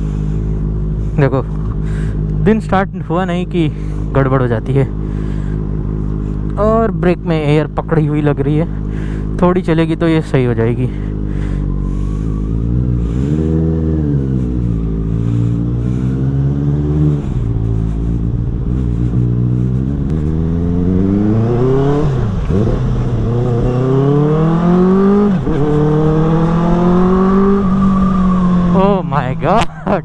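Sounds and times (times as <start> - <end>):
motorcycle engine revving through gears: 3.8 - 29.7.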